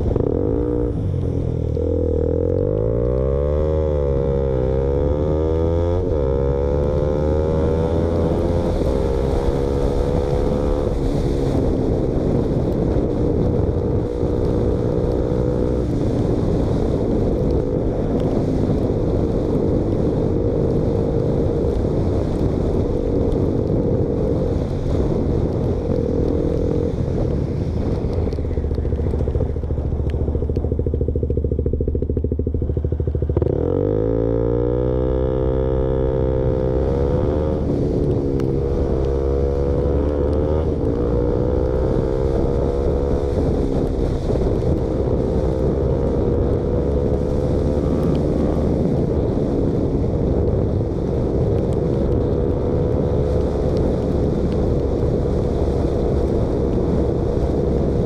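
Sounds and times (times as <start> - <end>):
loud motorcycle engine: 0.0 - 58.0.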